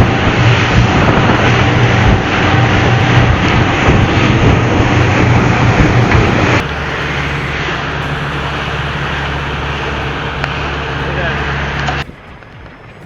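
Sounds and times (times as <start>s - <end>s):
outboard motor running: 0.0s - 13.0s
rushing wind and water: 0.0s - 13.0s.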